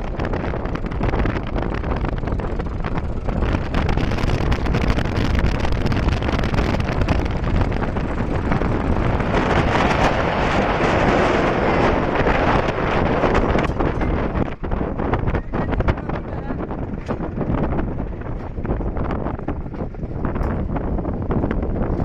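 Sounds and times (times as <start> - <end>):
tractor diesel engine under load: 0.0 - 22.0
wind buffeting microphone: 0.0 - 22.0.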